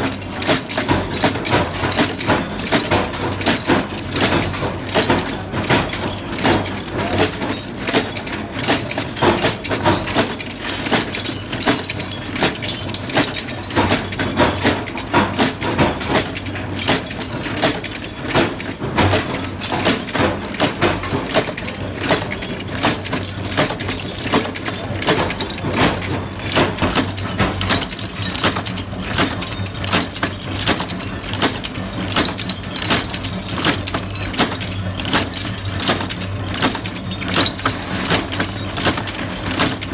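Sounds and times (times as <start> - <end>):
machine clattering and humming: 0.0 - 39.9.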